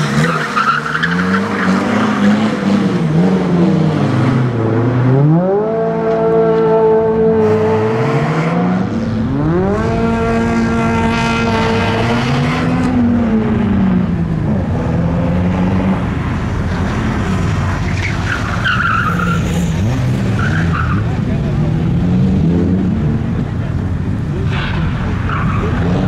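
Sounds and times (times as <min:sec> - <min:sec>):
car engine revving: 0:00.0 - 0:26.0
tyres skidding: 0:00.0 - 0:26.0.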